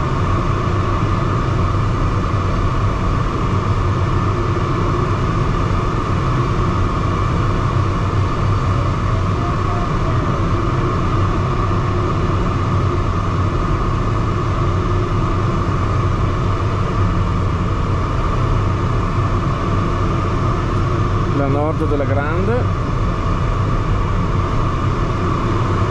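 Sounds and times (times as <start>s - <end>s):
wind rushing over glider canopy: 0.0s - 25.9s.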